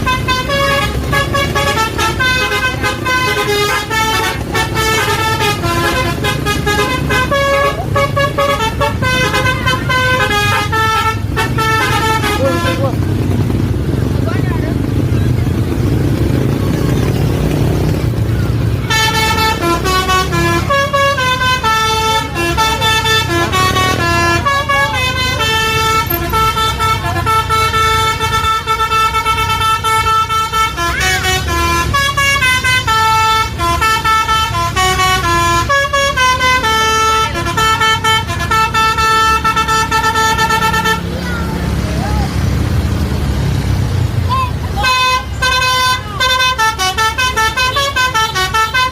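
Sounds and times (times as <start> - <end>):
multi-tone bus horn tune: 0.0 - 14.0, 16.2 - 41.8, 44.2 - 48.9
bus engine running: 0.0 - 48.9.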